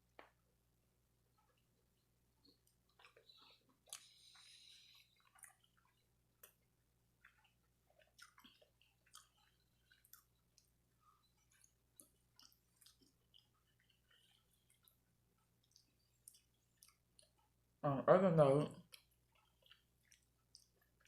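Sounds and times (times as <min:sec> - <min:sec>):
person chewing: 0:01.3 - 0:17.8, 0:18.8 - 0:21.0.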